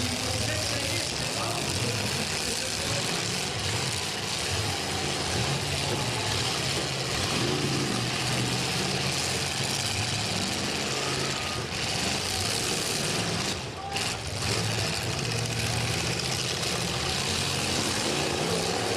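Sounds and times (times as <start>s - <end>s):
car engines running: 0.0s - 18.9s
constant noisy din: 0.0s - 18.9s.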